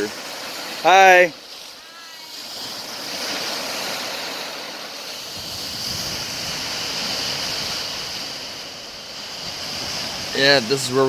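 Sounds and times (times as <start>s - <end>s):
waves breaking: 0.0s - 11.0s.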